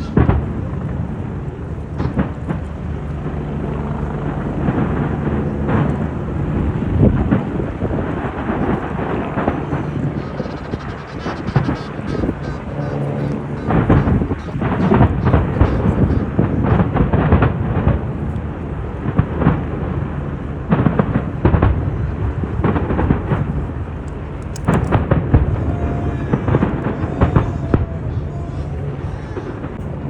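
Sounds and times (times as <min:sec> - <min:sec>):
fireworks bangs: 0:00.0 - 0:03.4, 0:04.3 - 0:20.0, 0:20.7 - 0:30.0
low rumble: 0:00.0 - 0:30.0.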